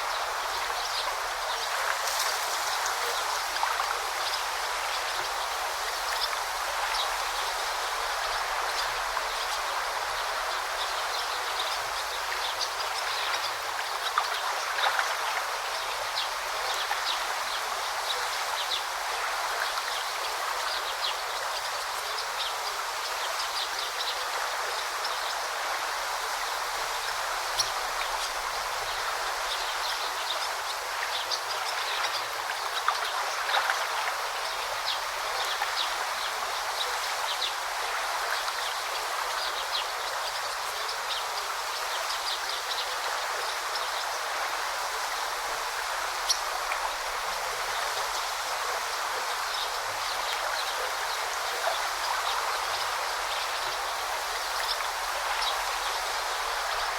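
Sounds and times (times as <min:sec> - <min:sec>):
river rushing: 0:00.0 - 0:56.9.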